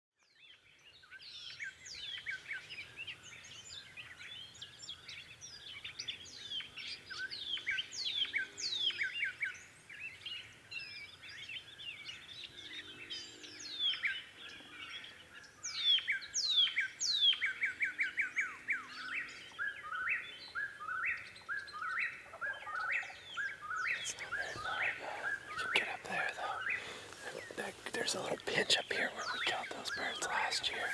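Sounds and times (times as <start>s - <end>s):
songbirds chorus: 0.2s - 30.9s.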